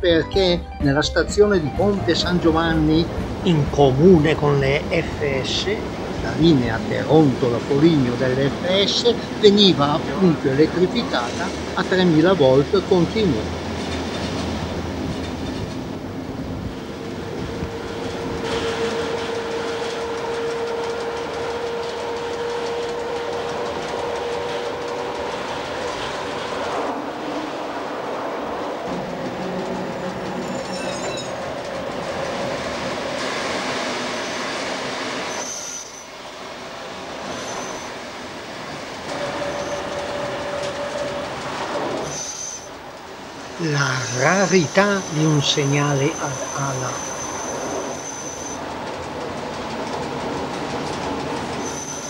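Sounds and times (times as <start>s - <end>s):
train rolling on rails: 0.0s - 52.0s
train whine: 0.0s - 52.0s.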